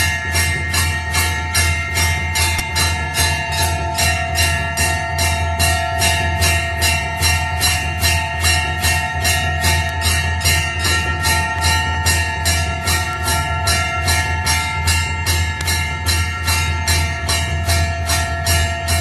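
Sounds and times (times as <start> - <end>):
temple bell rung rapidly: 0.0 - 19.0.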